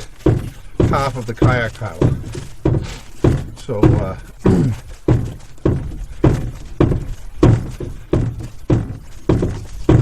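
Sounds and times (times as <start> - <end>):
kayak paddle strokes thunking: 0.0 - 10.0.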